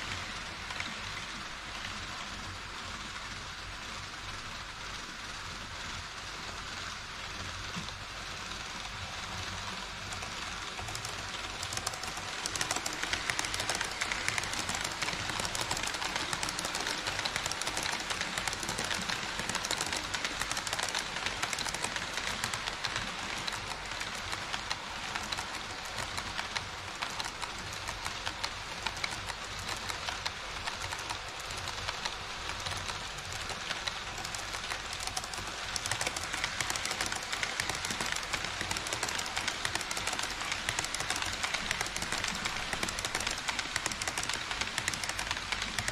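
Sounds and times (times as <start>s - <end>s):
model train wheels clattering: 0.0s - 45.9s.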